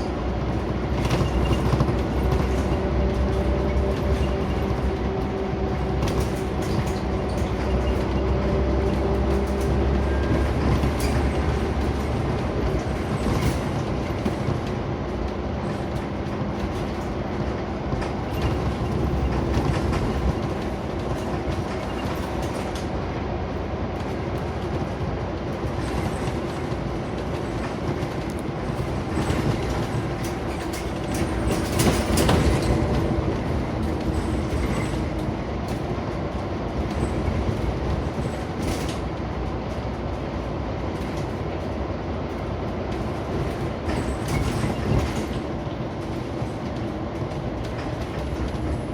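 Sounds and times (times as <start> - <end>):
bus engine humming: 0.0 - 48.9
road rumble: 0.0 - 48.9.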